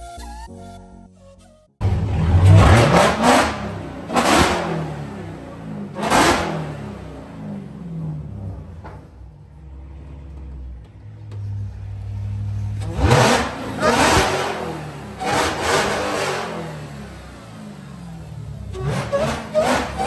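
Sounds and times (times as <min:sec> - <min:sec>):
car engine revving and idling: 0:01.8 - 0:20.0.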